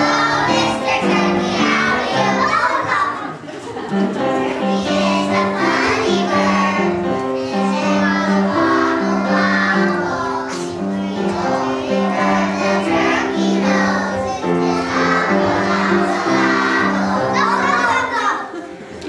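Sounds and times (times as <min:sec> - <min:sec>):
children singing in unison: 0:00.0 - 0:03.4, 0:04.1 - 0:18.1.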